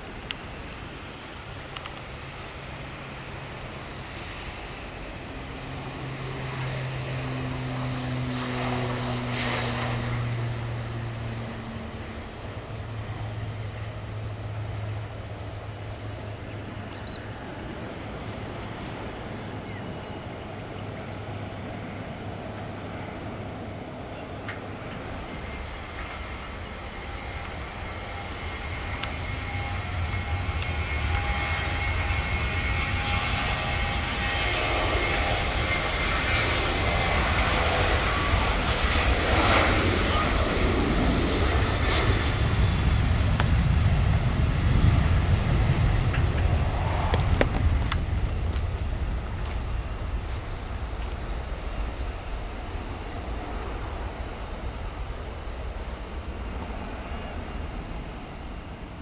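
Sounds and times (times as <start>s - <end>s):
jet engine rumble and whine: 0.0s - 59.0s
turboprop propeller drone: 0.0s - 59.0s.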